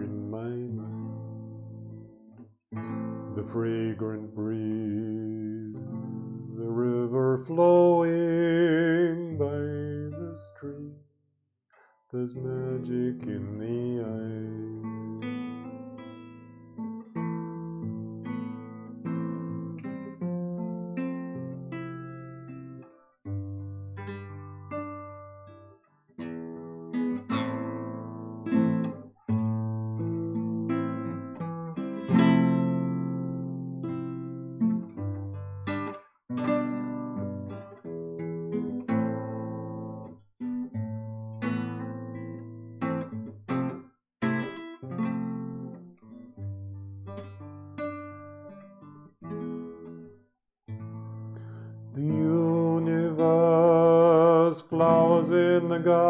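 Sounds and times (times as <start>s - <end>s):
classical guitar chords: 0.0s - 11.1s, 11.8s - 56.0s.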